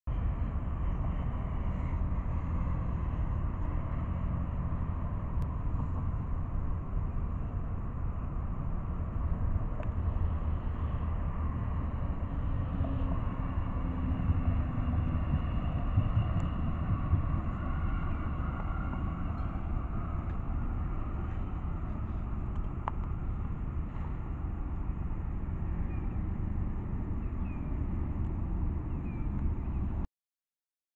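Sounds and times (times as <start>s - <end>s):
tram going by: 0.1s - 29.2s
road traffic: 0.1s - 30.1s.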